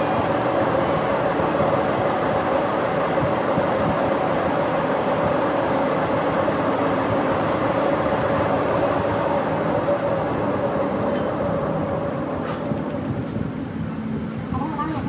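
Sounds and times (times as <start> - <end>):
metal lathe humming: 0.0 - 13.5.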